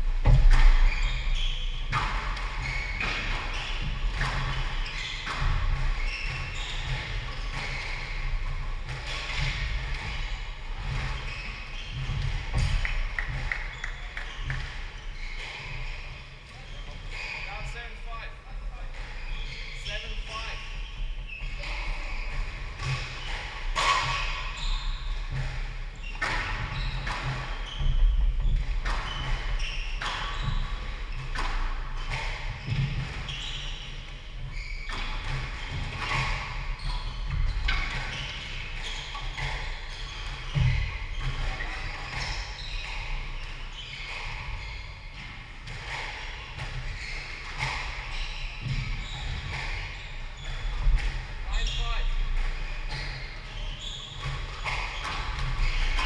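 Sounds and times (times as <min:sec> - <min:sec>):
shoes squeaking on wooden floor: 0:00.5 - 0:56.0
squash ball hitting rackets: 0:01.8 - 0:16.2, 0:21.4 - 0:56.0.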